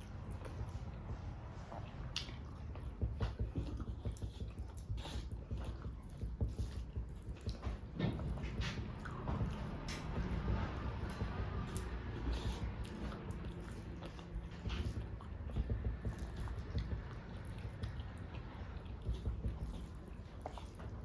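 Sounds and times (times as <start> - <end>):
chewing and mouth smacks: 0.0 - 21.0.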